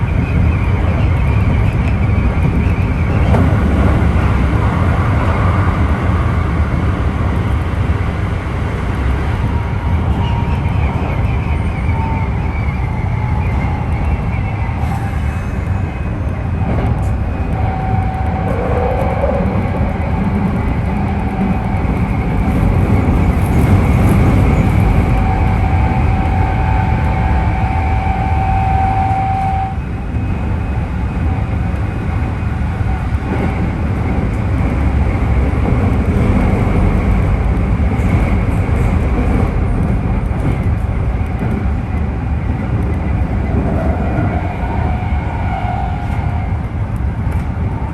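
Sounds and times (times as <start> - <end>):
train rumble under floor: 0.0 - 47.9.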